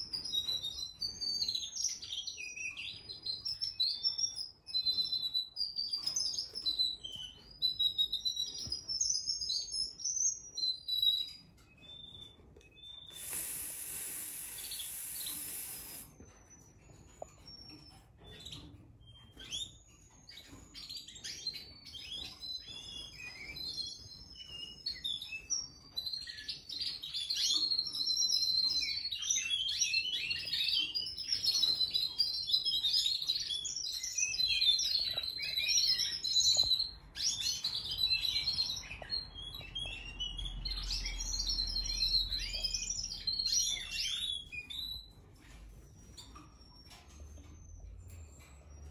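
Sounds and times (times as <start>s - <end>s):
canaries chirping and trilling: 0.0s - 48.9s.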